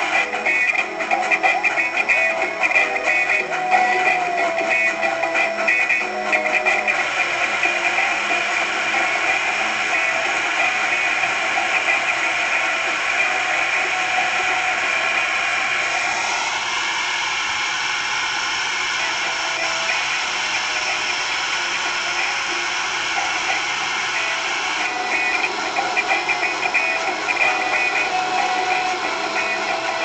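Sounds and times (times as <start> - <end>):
toy train motor whirring: 0.0 - 15.0, 19.0 - 30.0.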